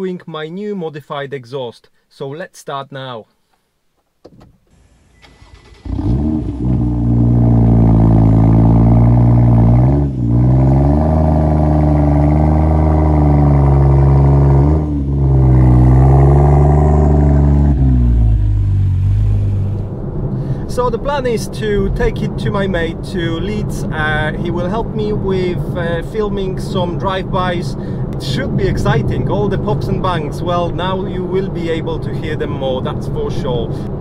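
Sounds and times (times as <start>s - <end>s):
car engine starting and idling: 4.3s - 34.0s.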